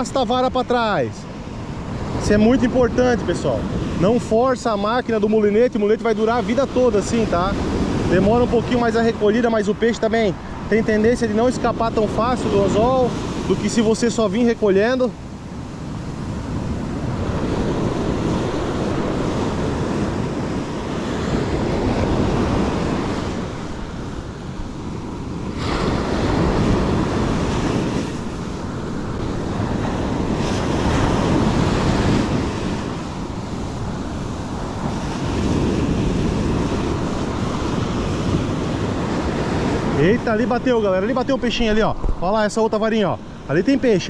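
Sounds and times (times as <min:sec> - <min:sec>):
ocean surf breaking: 0:00.0 - 0:44.0
wind buffeting microphone: 0:00.0 - 0:44.0.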